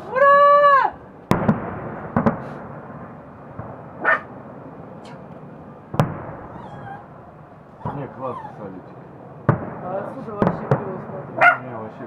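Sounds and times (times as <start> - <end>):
fireworks bangs: 0.0 - 12.0
rumbling hiss: 0.0 - 12.0.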